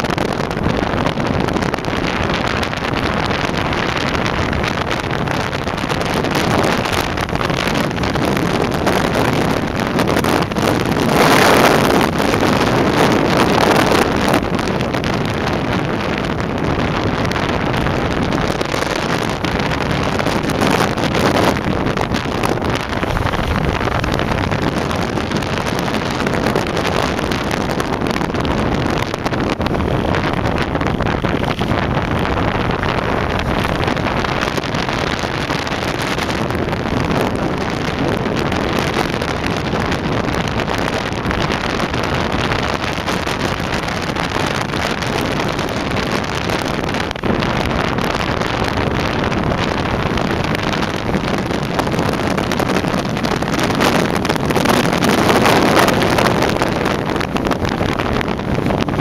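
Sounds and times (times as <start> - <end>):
motorcycle engine cruising: 0.0 - 59.0
wind rushing on microphone: 0.0 - 59.0.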